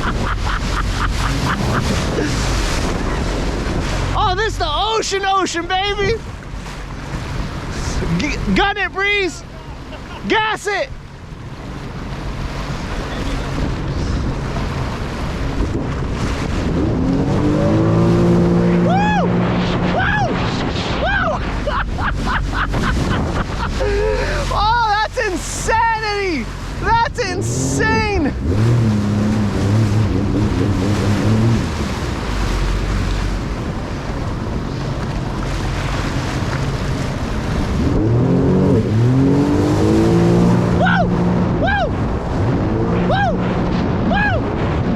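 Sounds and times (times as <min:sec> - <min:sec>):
wind noise on microphone: 0:00.0 - 0:04.4, 0:11.3 - 0:24.5, 0:26.4 - 0:44.9
jet ski engine: 0:00.0 - 0:44.9
water rushing: 0:00.0 - 0:44.9.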